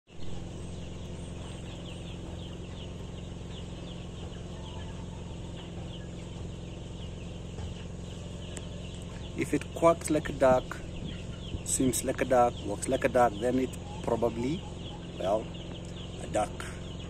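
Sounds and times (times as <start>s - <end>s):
chickens clucking: 0.1s - 17.0s
steady low hum: 0.1s - 17.0s.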